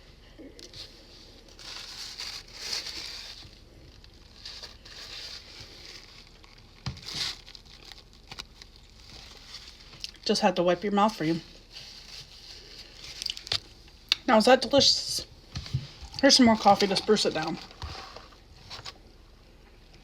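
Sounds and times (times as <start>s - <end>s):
paper crinkling and rustling: 0.6s - 13.9s, 15.6s - 19.0s.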